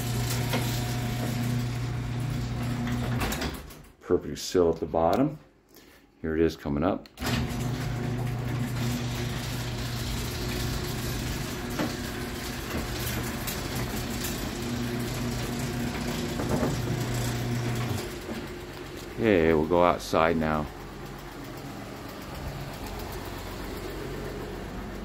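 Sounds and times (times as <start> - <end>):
garage door opener motor hum: 0.0 - 4.0, 7.2 - 25.0.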